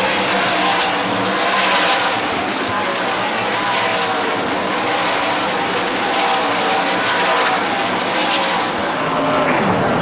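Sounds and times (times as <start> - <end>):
race truck engines at speed: 0.0 - 10.0.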